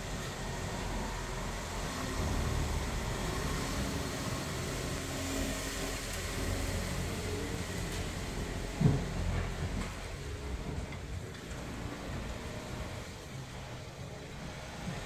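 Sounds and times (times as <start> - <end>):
steady background noise: 0.0 - 15.0
vehicle engine rumble: 0.0 - 15.0.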